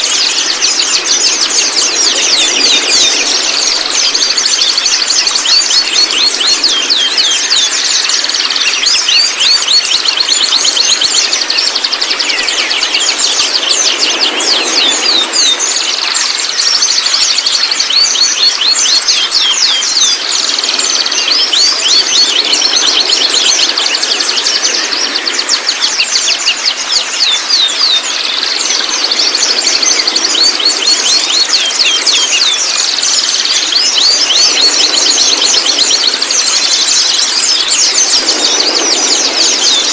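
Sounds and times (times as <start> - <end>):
bird song rapid chattering: 0.0 - 39.9.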